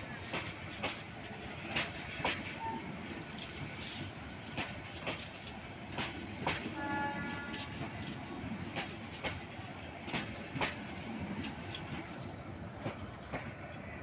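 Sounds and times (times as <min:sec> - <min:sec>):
train rumble: 0:00.0 - 0:14.0
wheels clicking over rail joints: 0:00.0 - 0:14.0.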